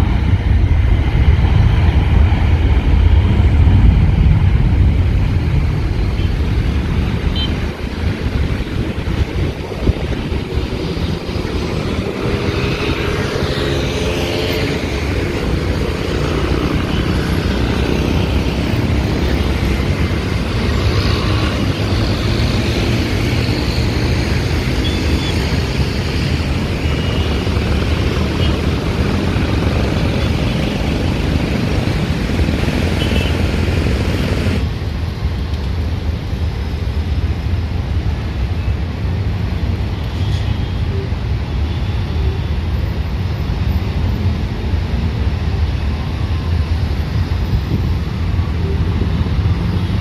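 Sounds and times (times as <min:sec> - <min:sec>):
duller jet engine noise: 0:00.0 - 0:50.0
jet engines at takeoff thrust: 0:00.0 - 0:50.0.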